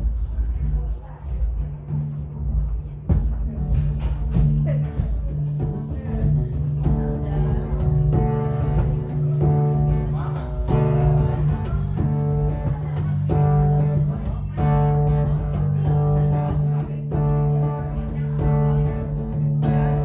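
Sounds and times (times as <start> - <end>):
acoustic guitar strumming: 1.9 - 20.0.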